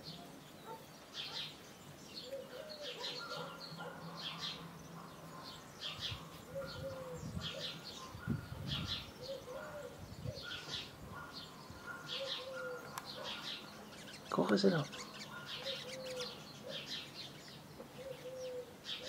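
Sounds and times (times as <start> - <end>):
small birds chirping: 0.0 - 19.0
dove cooing: 2.2 - 14.2, 15.0 - 19.0.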